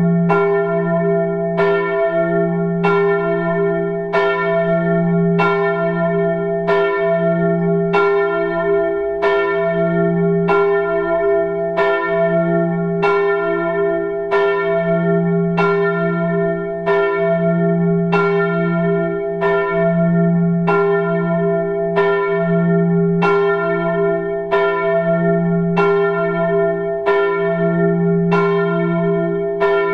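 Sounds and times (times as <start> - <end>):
church bell tolling: 0.0 - 29.9.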